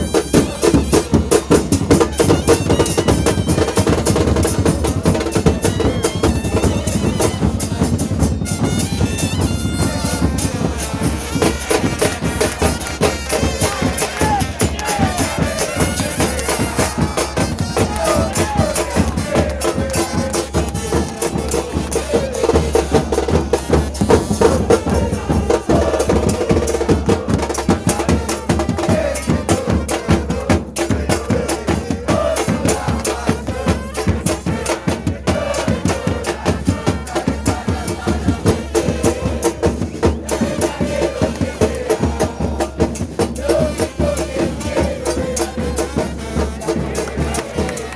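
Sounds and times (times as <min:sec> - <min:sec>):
drum band playing: 0:00.0 - 0:47.9.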